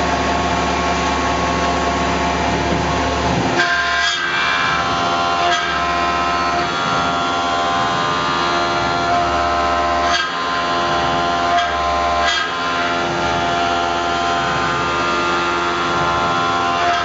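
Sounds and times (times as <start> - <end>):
milling spindle whine: 0.0 - 17.0.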